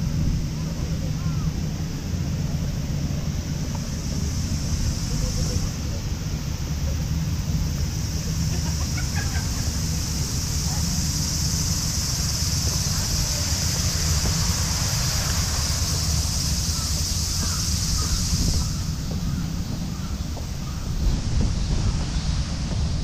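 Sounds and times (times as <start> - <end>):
cicada chorus: 0.0 - 23.0
wind rumbling on microphone: 0.0 - 23.0.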